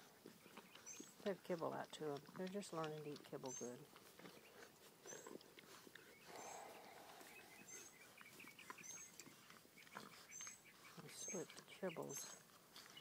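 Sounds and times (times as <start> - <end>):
puppies lapping and chewing: 0.0 - 13.0.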